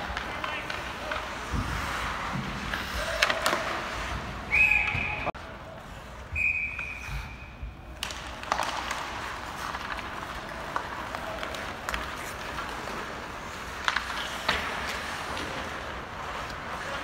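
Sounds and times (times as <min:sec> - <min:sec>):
hockey sticks and puck clacking: 0:00.0 - 0:17.0
skates scraping on ice: 0:00.0 - 0:17.0.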